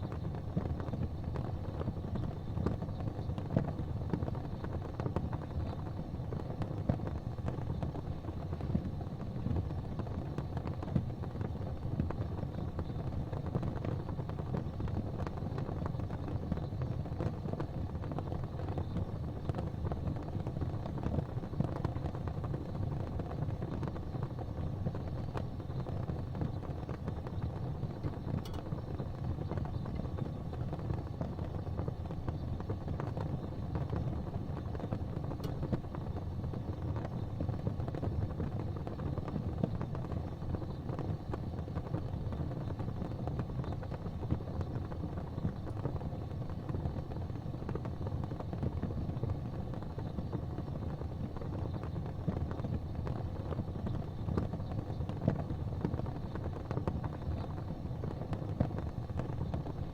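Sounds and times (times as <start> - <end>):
flame crackles: 0.0 - 59.9
gas fireplace flames rumbling: 0.0 - 59.9.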